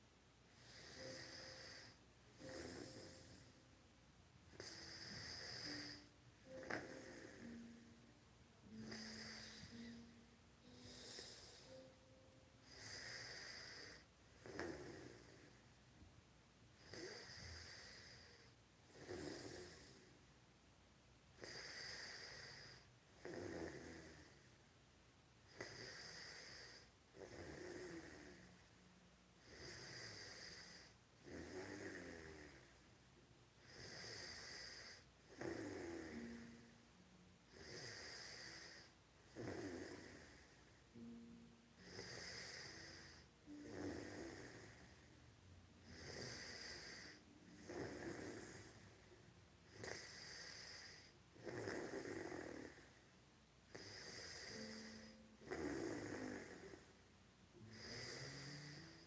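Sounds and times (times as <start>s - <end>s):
person snoring: 0.6s - 3.6s, 4.5s - 7.9s, 8.6s - 12.0s, 12.6s - 15.6s, 16.8s - 20.1s, 21.4s - 24.4s, 25.5s - 28.6s, 29.4s - 32.7s, 33.6s - 36.7s, 37.5s - 45.1s, 45.8s - 49.1s, 49.7s - 53.0s, 53.7s - 56.9s, 57.6s - 59.0s.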